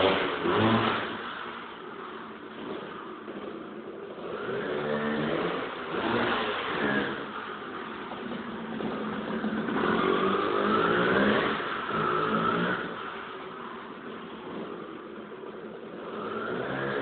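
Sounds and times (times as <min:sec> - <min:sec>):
scooter engine revving: 0:00.0 - 0:17.0.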